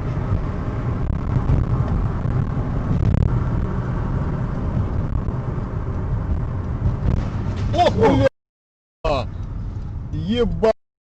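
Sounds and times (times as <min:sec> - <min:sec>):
car engine and road noise: 0:00.0 - 0:08.3, 0:09.0 - 0:10.8.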